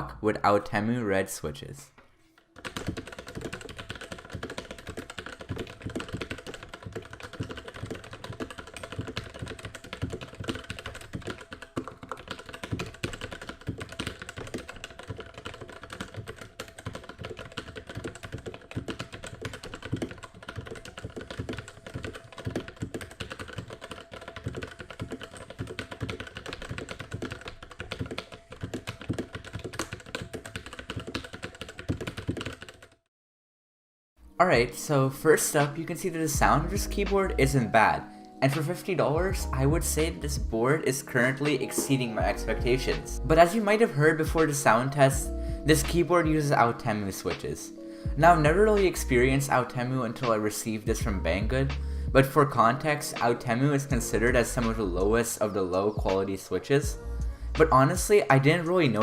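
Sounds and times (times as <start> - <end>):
fast typing on mechanical keyboard: 2.6 - 33.0, 35.4 - 56.9, 57.6 - 59.0.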